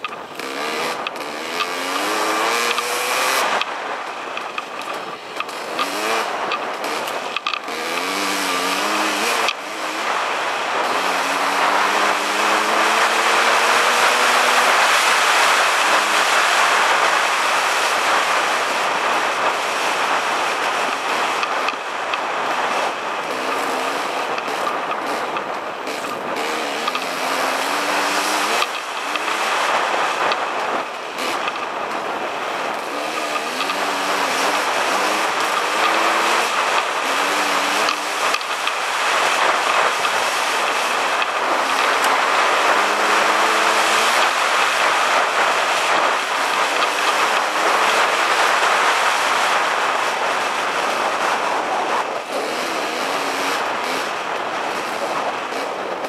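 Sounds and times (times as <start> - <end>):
dirt bike engine accelerating: 0.0 - 56.0
wind noise: 0.0 - 56.0.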